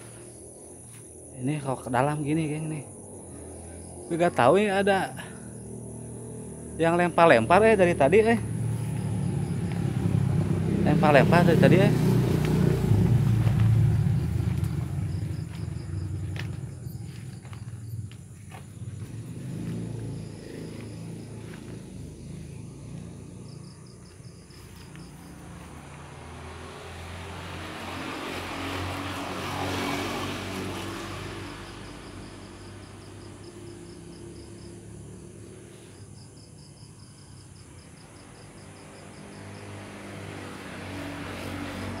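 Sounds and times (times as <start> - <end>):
motor engine droning: 0.0 - 36.1
faint rapid insect trills: 0.0 - 42.0.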